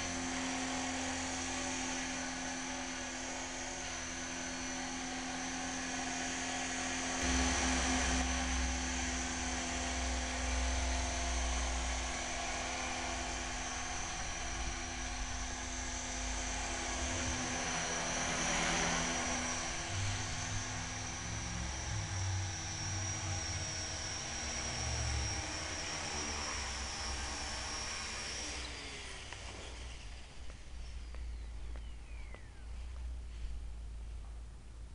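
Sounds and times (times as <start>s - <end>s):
helicopter rotor hum: 0.0s - 33.4s
electric motor whine: 0.0s - 34.1s.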